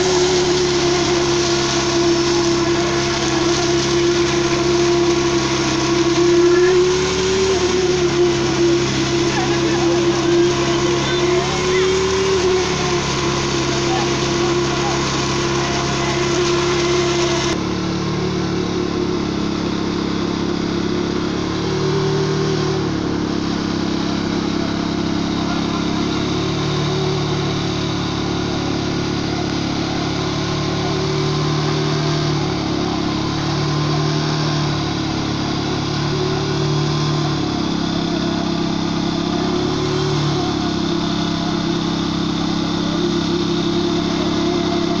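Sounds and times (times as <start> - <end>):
machine engine changing speed: 0.0 - 45.0.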